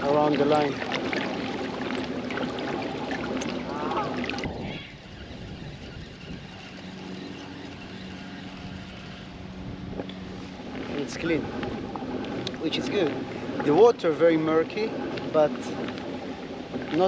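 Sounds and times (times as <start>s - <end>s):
kayak moving on water: 0.0s - 17.0s
steady low hum: 0.0s - 17.0s.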